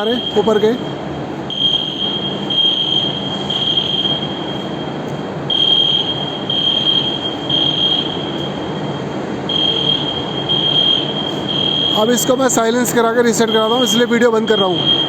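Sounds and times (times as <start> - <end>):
overhead fans rushing: 0.0 - 15.0
pulsing fire alarm tone: 0.0 - 15.0.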